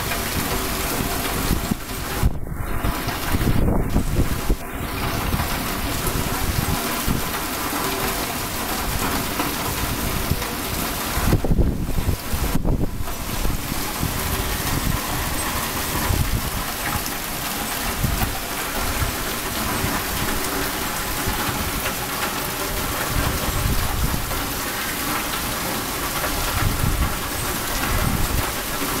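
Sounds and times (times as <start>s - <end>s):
heavy rain downpour: 0.0s - 29.0s
wind gusting on microphone: 0.0s - 29.0s.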